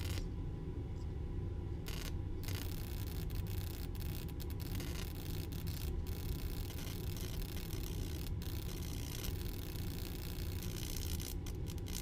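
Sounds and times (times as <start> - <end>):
electric arc buzzing hiss: 0.0 - 0.3, 1.8 - 12.0
low electrical hum: 0.0 - 12.0.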